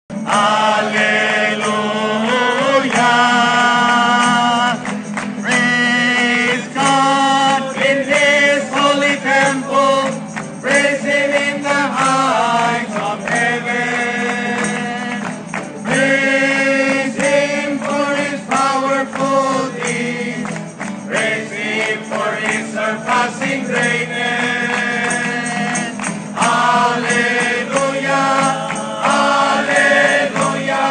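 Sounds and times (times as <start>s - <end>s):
group singing a religious song: 0.1s - 30.9s
hands clapping: 0.1s - 30.9s
strummed acoustic guitar: 0.1s - 30.9s.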